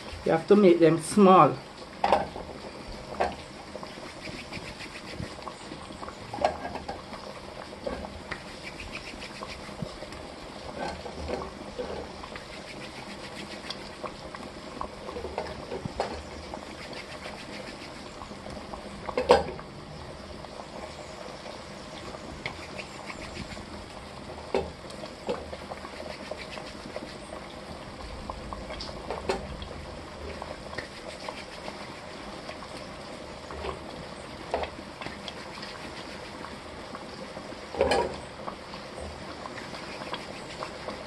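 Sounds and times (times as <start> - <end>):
stew bubbling in a pot: 0.0 - 41.0.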